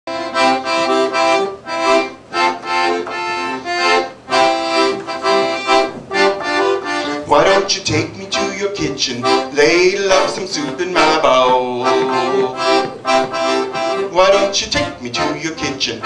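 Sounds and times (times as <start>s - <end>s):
accordion playing chords: 0.1s - 16.0s.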